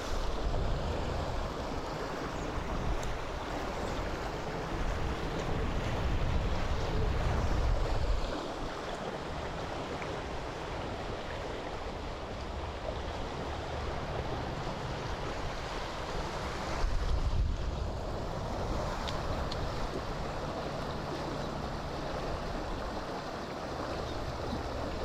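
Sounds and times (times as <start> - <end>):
wind buffeting microphone: 0.0 - 8.5, 10.7 - 23.0
river water rushing: 0.0 - 25.0.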